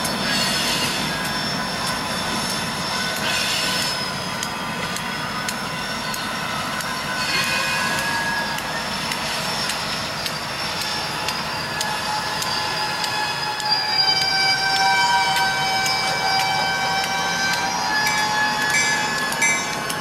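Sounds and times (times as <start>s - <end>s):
railroad crossing bell ringing: 0.0s - 20.0s
train rumbling: 0.0s - 20.0s
train wheels squealing: 0.0s - 20.0s.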